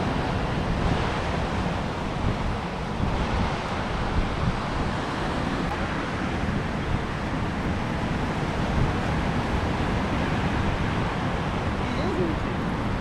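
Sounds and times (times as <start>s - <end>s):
surf washing on beach: 0.0s - 13.0s
wind rumbling on microphone: 0.0s - 13.0s.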